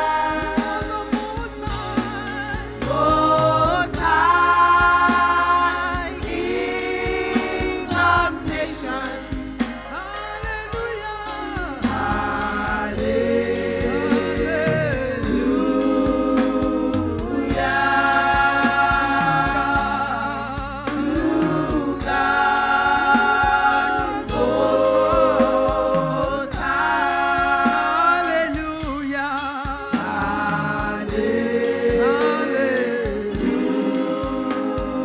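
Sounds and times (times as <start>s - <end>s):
bass: 0.0s - 35.0s
steady drum beat: 0.0s - 35.0s
voices singing with vibrato: 0.0s - 35.0s.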